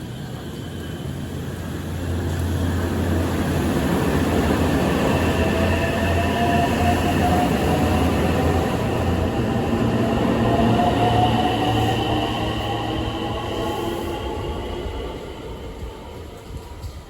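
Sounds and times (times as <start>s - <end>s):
train passing with deep hum: 0.0s - 17.0s.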